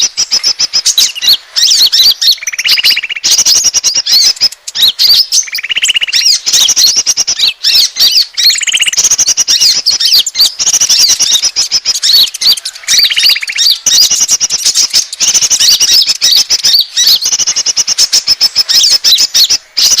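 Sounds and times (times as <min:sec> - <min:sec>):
buzzy bird trill: 0:00.0 - 0:20.0
small birds chirping and whistling: 0:00.0 - 0:20.0.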